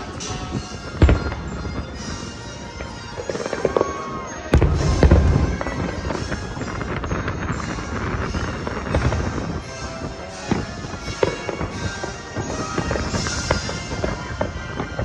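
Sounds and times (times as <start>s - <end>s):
fireworks booming: 0.0s - 15.0s
music playing: 0.0s - 15.0s.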